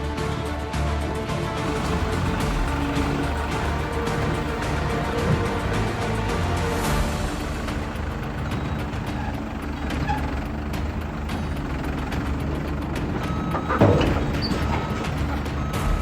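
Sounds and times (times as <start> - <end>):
heavy vehicle engine running: 0.0 - 16.0
reversing alarm beeping: 1.6 - 16.0.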